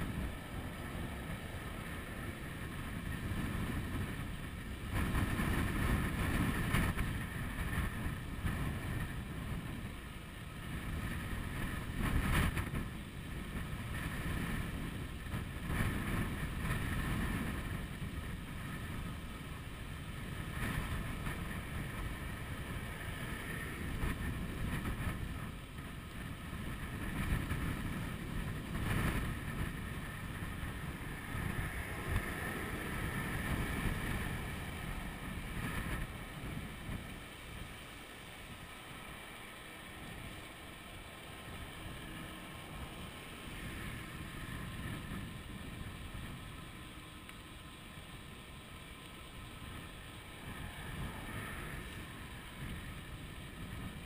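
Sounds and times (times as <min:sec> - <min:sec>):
faint high whine: 0:00.0 - 0:54.0
wind buffeting microphone: 0:00.0 - 0:54.0.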